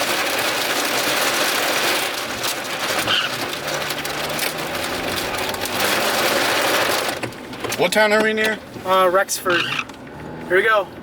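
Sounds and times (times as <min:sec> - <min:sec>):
rain on a car roof: 0:00.0 - 0:11.0.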